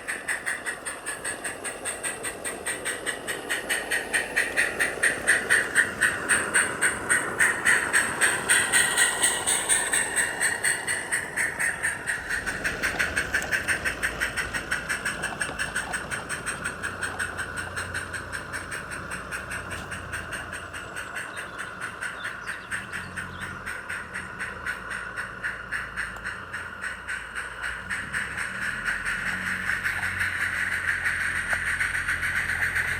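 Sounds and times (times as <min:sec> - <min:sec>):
steam locomotive chuffing: 0:00.0 - 0:32.9.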